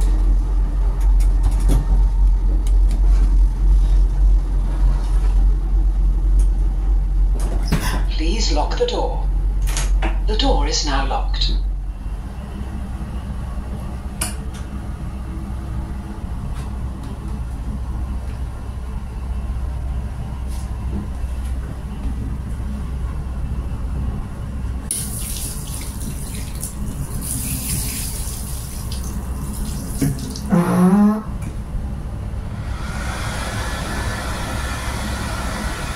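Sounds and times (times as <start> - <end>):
train rumbling from inside: 0.0 - 35.9.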